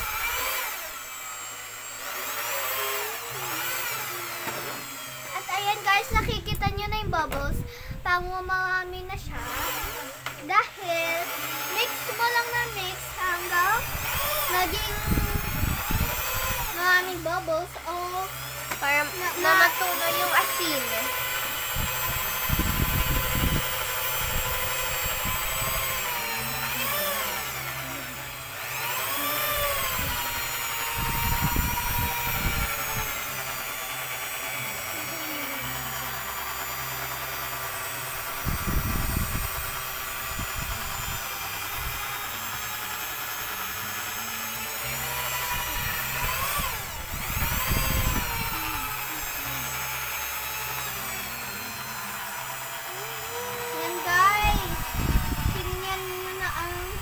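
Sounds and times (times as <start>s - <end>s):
electric drill mixing liquid: 0.0s - 57.0s.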